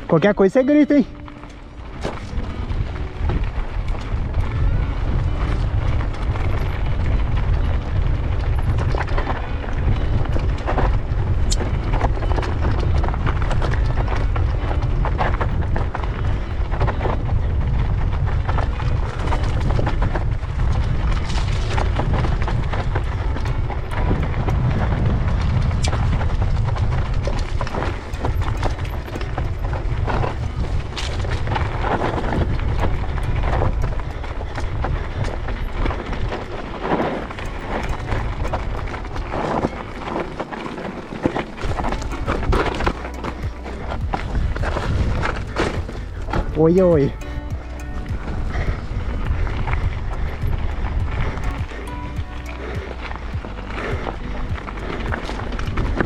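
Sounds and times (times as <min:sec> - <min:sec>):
bike rattling: 0:00.0 - 0:56.0
wind rumble on microphone: 0:00.0 - 0:56.0.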